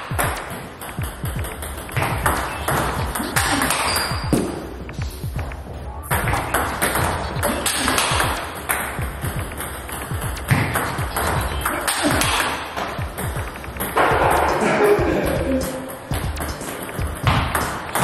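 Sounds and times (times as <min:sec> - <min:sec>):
ping pong ball hitting paddles: 0:00.0 - 0:18.0
ball bouncing on table: 0:00.1 - 0:04.6, 0:05.3 - 0:14.6, 0:15.7 - 0:18.0.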